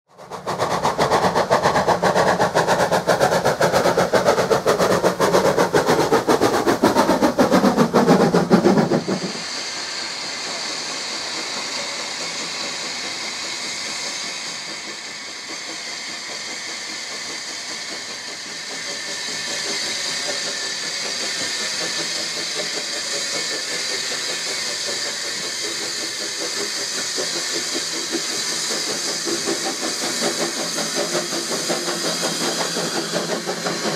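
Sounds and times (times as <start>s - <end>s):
hiss of steam: 0.1s - 33.9s
steam locomotive working: 0.1s - 33.9s.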